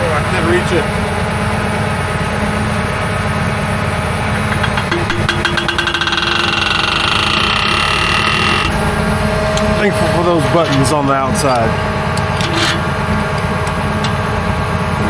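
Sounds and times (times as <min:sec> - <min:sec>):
hydraulic whine: 0:00.0 - 0:15.0
tractor engine idling: 0:00.0 - 0:15.0.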